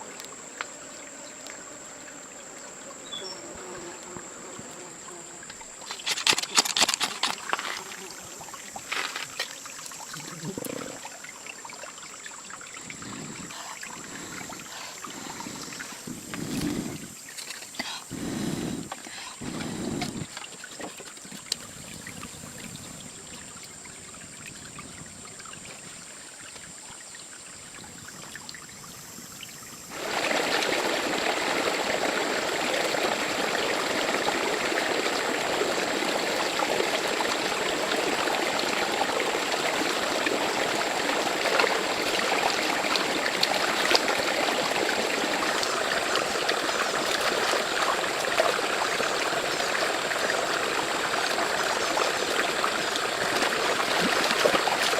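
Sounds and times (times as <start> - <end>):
rush of running water: 0.0 - 0.4, 5.4 - 54.9
faint outdoor hiss: 0.0 - 54.9.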